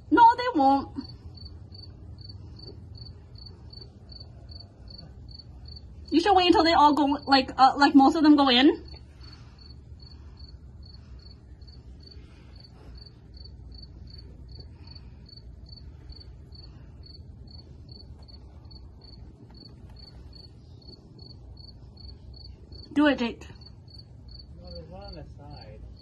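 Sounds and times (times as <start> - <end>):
low background rumble: 0.0 - 26.0
cricket chirping: 1.0 - 6.2, 8.9 - 22.9, 23.6 - 26.0.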